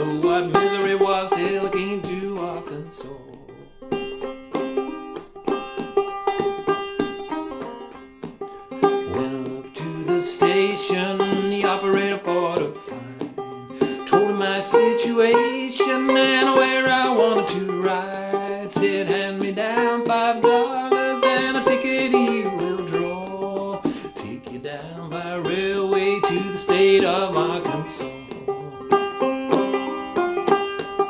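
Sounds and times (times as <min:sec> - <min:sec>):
banjo playing old-time tune: 0:00.0 - 0:31.0.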